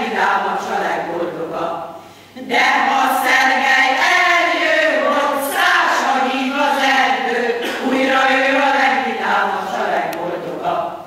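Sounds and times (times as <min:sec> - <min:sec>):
women's choir singing: 0:00.0 - 0:11.0.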